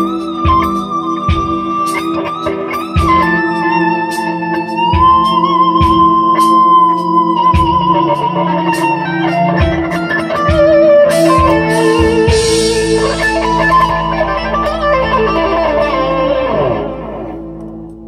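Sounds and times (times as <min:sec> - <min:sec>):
electric guitar lead with bending notes: 0:00.0 - 0:18.0.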